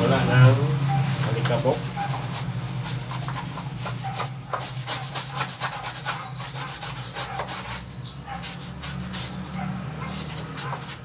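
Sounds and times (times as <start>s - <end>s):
brush scrubbing air conditioner: 0.0s - 11.0s.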